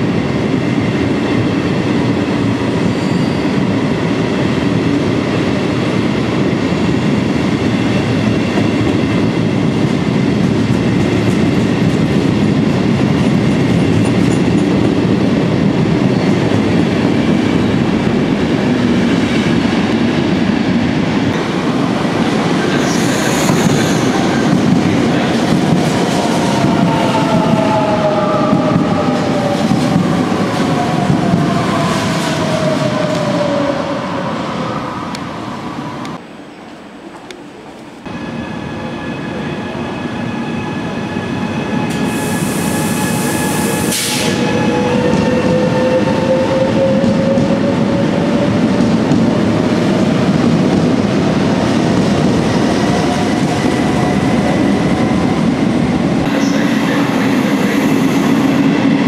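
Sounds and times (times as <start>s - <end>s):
wheels rumbling on rail: 0.0s - 38.2s, 39.9s - 59.0s.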